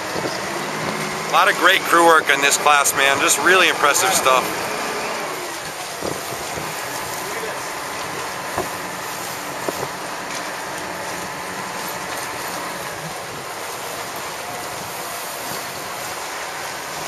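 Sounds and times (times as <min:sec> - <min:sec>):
water rushing: 0:00.0 - 0:17.0
wind: 0:00.0 - 0:17.0.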